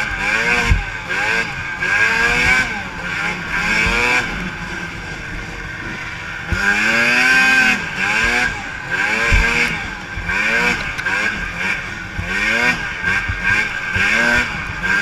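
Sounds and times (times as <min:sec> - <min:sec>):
snowmobile engines revving: 0:00.0 - 0:15.0.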